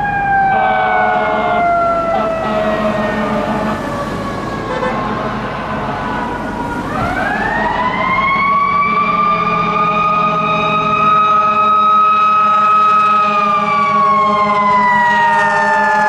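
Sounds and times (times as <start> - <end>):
truck engine running: 0.0 - 14.7
fire engine siren: 0.0 - 16.0.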